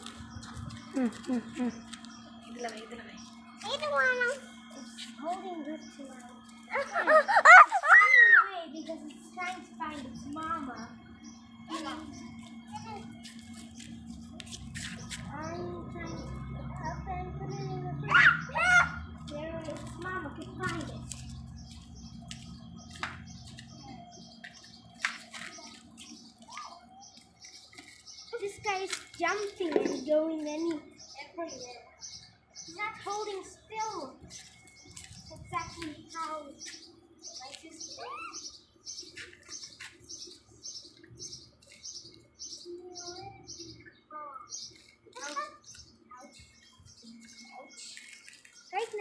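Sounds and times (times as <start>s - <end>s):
small bird chirping: 0.0s - 49.0s.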